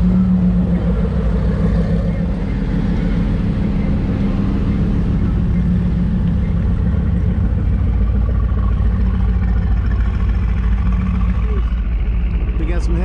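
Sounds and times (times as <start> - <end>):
car engines running: 0.0 - 13.0.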